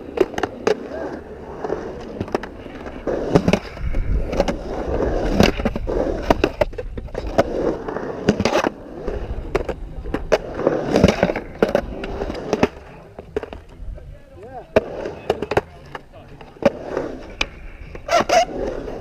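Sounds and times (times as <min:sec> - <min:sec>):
skateboard wheels rolling on concrete: 0:00.0 - 0:19.0
skateboard clacks and knocks: 0:01.9 - 0:13.8, 0:14.7 - 0:19.0.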